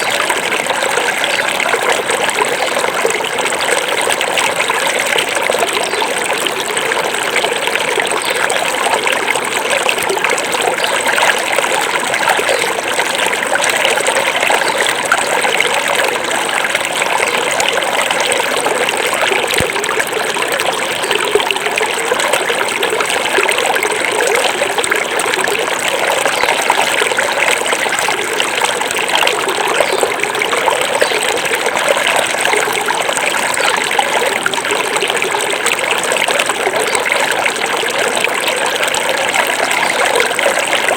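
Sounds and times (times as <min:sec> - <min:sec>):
river babbling over rocks: 0:00.0 - 0:40.9.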